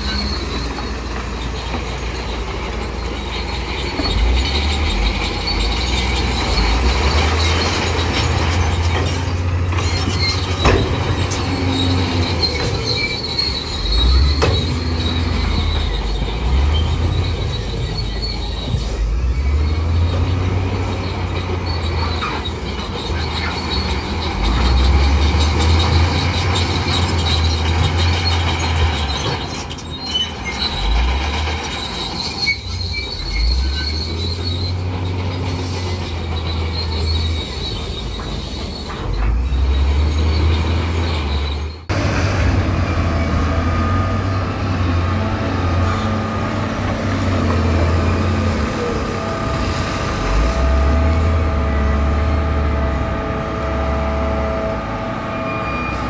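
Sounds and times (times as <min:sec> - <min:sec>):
diesel engine labouring: 0:00.0 - 0:56.0
steel tracks squealing and clanking: 0:00.0 - 0:56.0.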